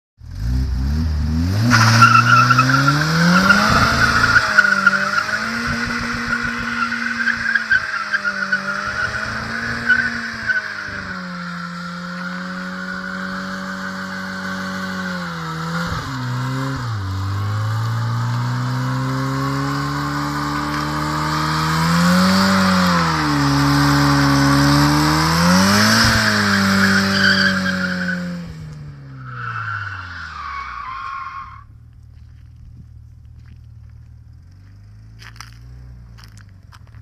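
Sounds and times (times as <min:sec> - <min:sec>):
car engine at high revs: 0:00.2 - 0:32.4, 0:33.0 - 0:37.0.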